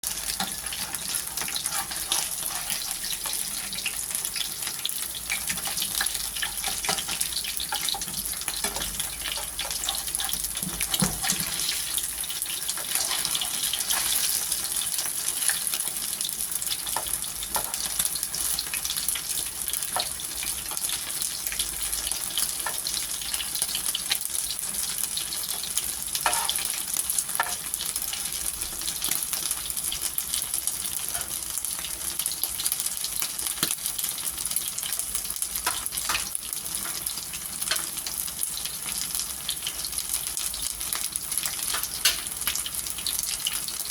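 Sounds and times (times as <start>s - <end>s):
food deep-frying in oil: 0.0s - 43.9s.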